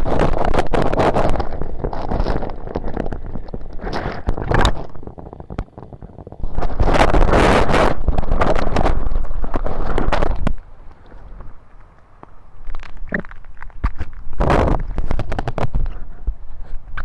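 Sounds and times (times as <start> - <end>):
crackles and knocks: 0.0 - 17.0.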